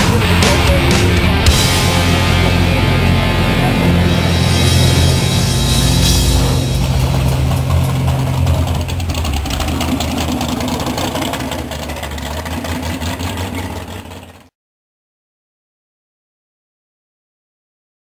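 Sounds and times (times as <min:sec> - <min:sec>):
car engine idling: 0:00.0 - 0:14.5.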